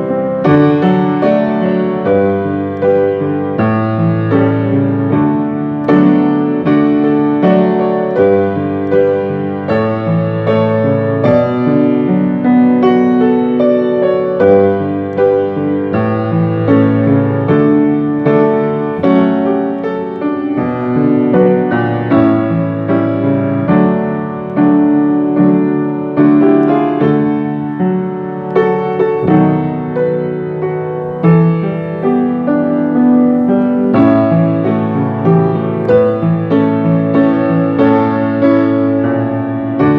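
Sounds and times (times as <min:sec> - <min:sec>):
slow gentle piano hymn: 0:00.0 - 0:39.9.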